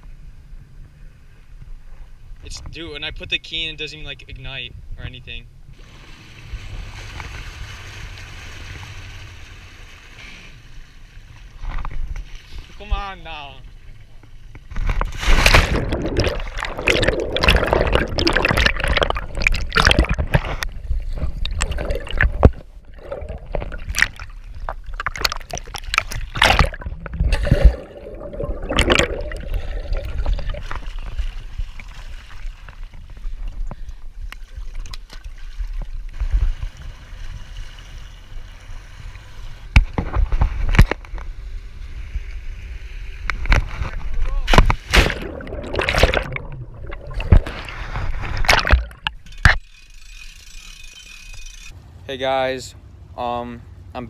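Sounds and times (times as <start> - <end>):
water sloshing against hull: 5.7 - 52.0.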